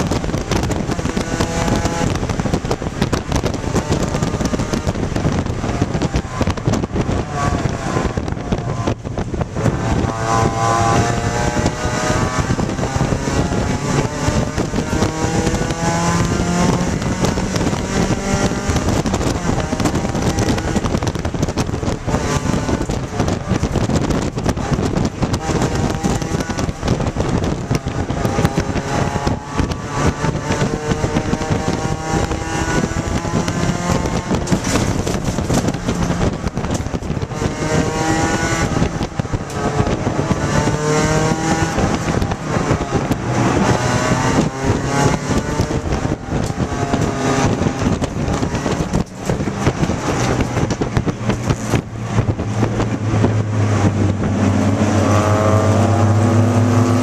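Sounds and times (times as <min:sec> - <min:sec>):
car engine revving through gears: 0:00.0 - 0:57.0
road and wind noise: 0:00.0 - 0:57.0.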